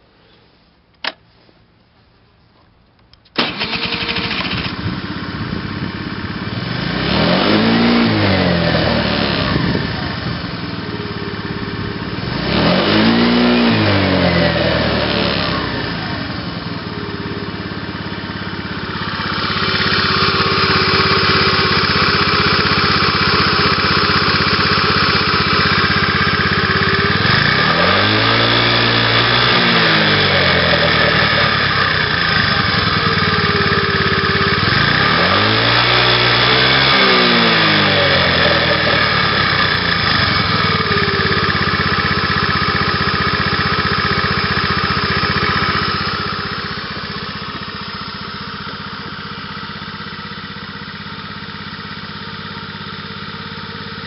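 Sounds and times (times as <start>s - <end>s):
scooter engine starting and idling: 3.1s - 54.0s
scooter engine revving: 3.4s - 54.0s.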